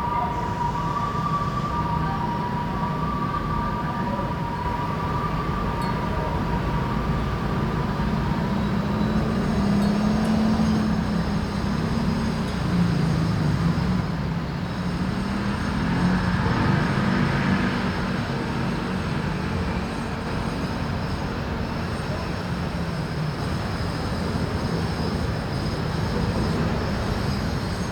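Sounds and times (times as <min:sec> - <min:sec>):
low rumble of city traffic: 0:00.0 - 0:27.9.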